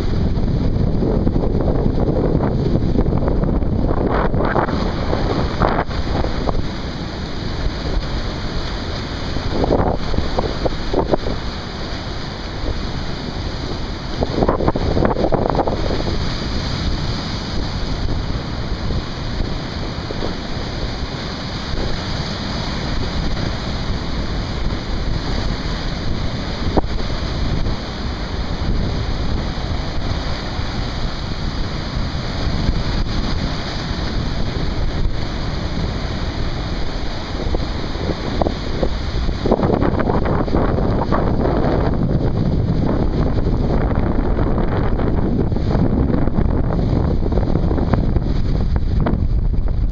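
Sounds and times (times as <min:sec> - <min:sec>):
breaking surf: 0:00.0 - 0:49.9
wind noise on microphone: 0:00.0 - 0:49.9.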